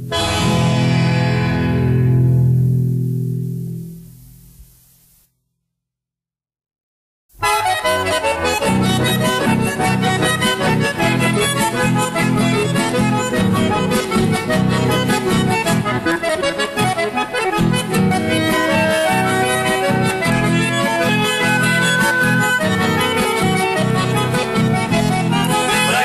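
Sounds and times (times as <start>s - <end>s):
accordion melody: 0.0s - 2.6s, 7.4s - 26.0s
strummed guitars: 0.0s - 3.9s, 7.4s - 26.0s.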